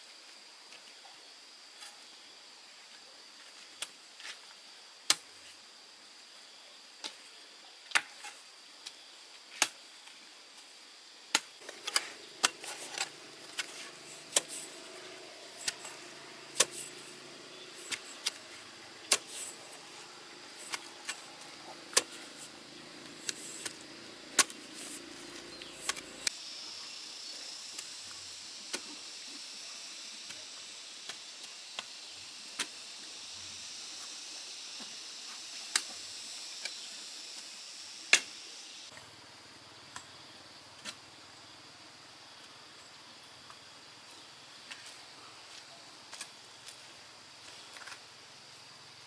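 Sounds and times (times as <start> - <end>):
steady high hiss: 8.4 - 49.0.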